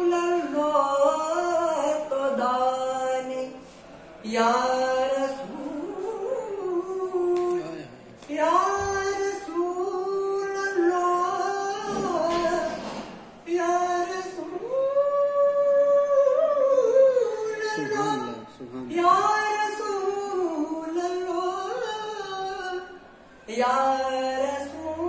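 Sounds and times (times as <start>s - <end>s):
man singing unaccompanied: 0.0s - 12.8s, 13.4s - 25.0s.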